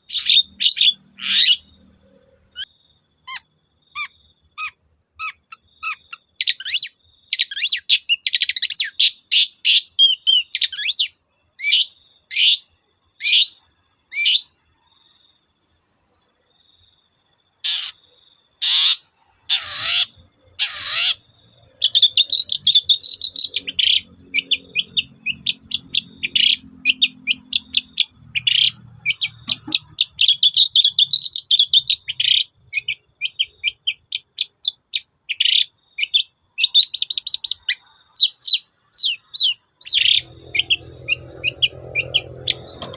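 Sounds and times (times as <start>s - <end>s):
bird singing: 0.0s - 42.9s.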